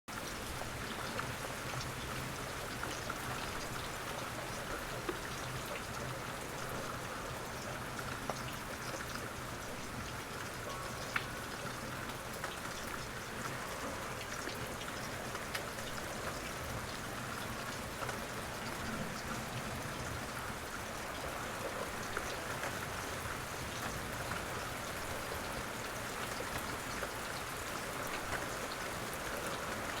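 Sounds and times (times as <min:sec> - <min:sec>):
rain patter: 0:00.1 - 0:30.0.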